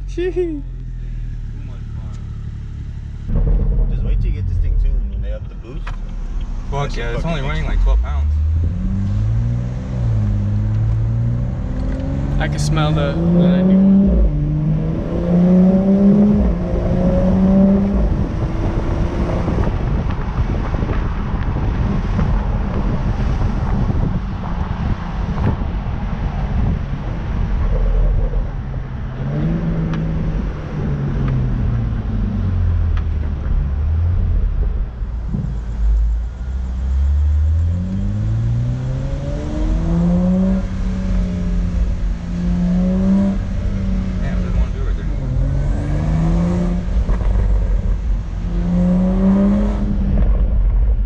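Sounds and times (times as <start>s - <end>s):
car engine accelerating: 0.0s - 51.0s
road noise: 0.0s - 51.0s.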